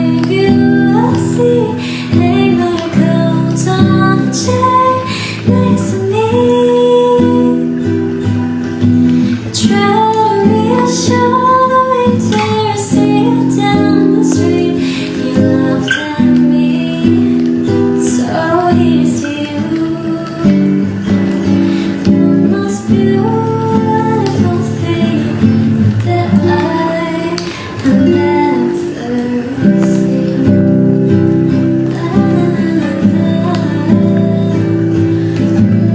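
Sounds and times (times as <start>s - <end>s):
acoustic guitar: 0.0s - 35.9s
woman singing: 0.0s - 35.9s.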